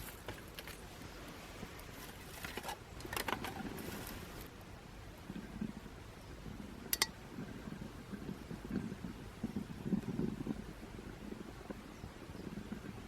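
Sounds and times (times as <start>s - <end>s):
twig fire crackling: 0.0s - 13.0s.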